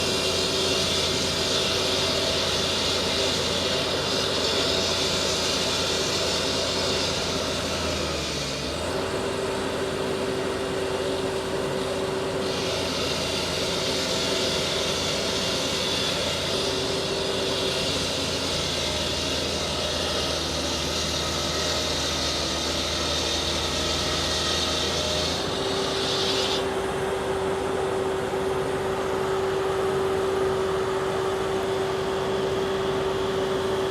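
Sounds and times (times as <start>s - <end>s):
concrete saw engine running: 0.0s - 33.9s
saw blade grinding asphalt: 0.0s - 33.9s.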